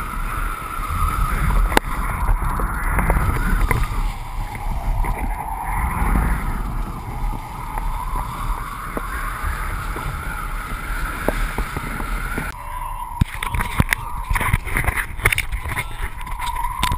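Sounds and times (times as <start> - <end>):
water rushing: 0.0 - 16.9
wind rushing: 0.0 - 16.9.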